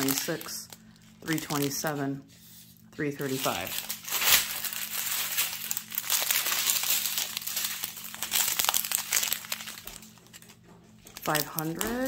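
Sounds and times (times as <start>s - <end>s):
plastic bags crinkling: 0.0s - 2.1s, 3.2s - 12.0s.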